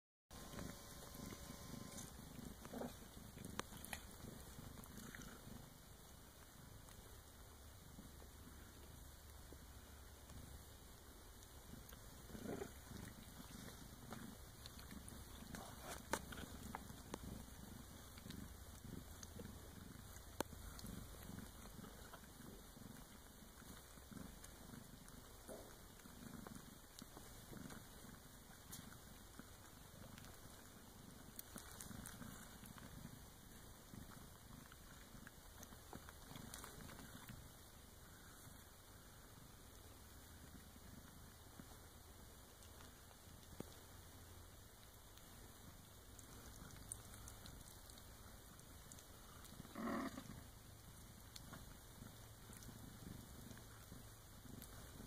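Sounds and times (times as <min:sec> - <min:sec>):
cat purring: 0:00.3 - 0:55.0.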